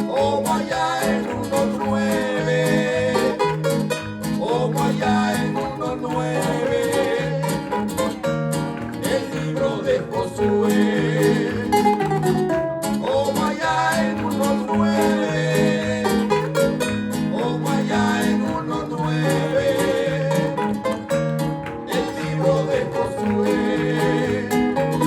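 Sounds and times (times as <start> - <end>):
upbeat praise song music: 0.0 - 25.0.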